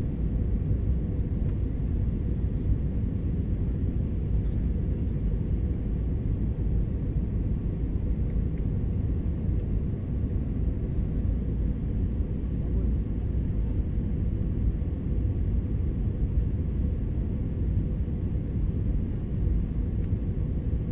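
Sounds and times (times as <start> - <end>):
aircraft cabin engine rumble: 0.0 - 20.9.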